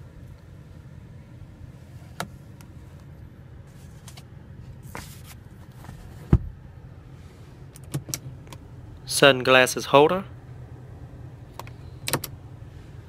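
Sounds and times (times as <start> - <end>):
low cabin hum: 0.0 - 13.0.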